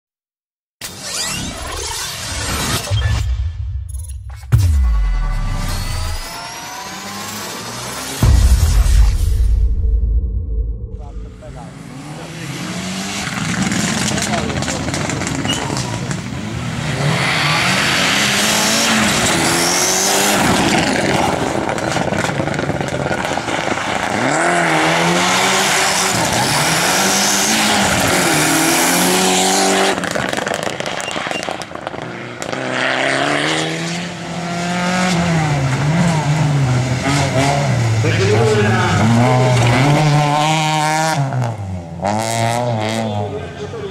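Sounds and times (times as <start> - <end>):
rally car engines revving: 5.1 - 9.2, 11.0 - 43.9.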